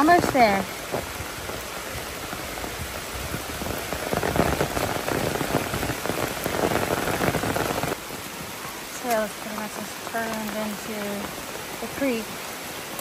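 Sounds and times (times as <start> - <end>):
hard rain falling through forest: 0.0 - 13.0.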